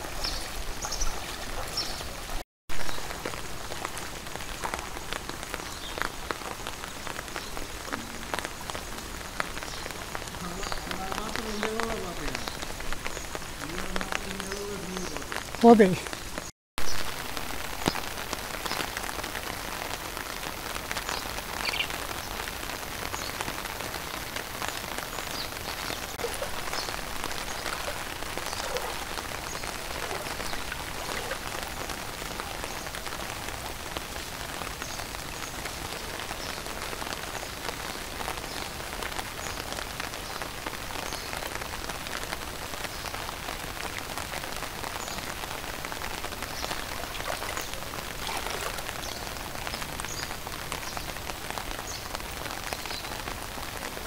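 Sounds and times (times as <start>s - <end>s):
rain on water and hard surfaces: 0.0s - 54.0s.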